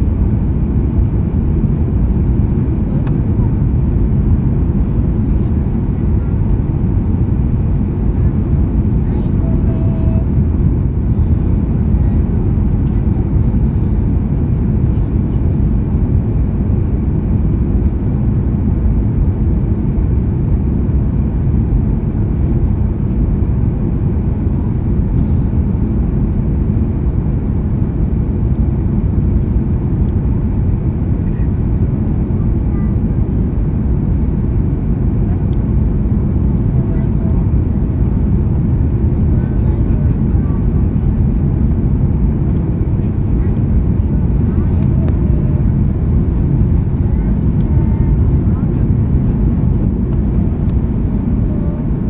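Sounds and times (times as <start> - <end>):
jet engines rumbling: 0.0 - 52.0.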